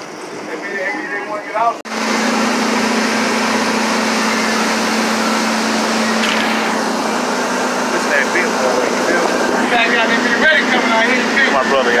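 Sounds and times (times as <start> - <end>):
boat engine drone: 1.9 - 12.0
churning wake water: 1.9 - 12.0.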